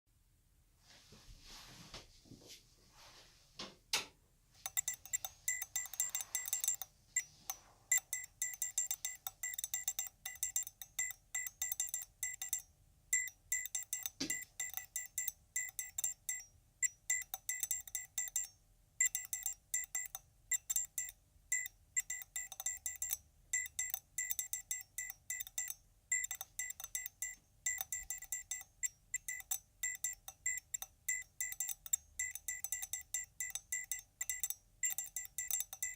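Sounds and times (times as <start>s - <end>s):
electronic alarm beeping: 4.7s - 35.9s.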